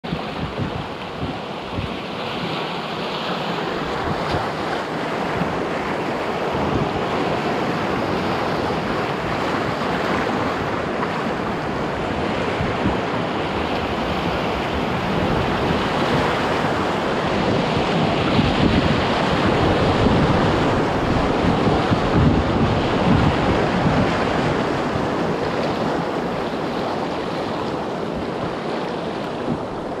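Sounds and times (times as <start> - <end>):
rushing whitewater: 0.0 - 30.0
wind buffeting microphone: 0.1 - 2.6, 3.6 - 30.0.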